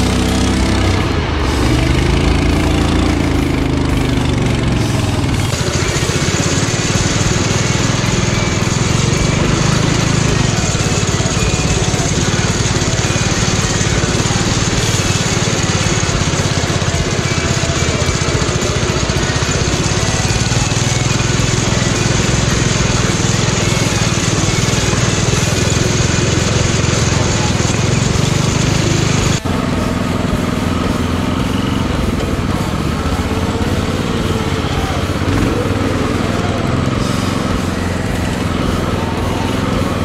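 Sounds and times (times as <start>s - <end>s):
lawn mower engine running hard: 0.0s - 40.0s.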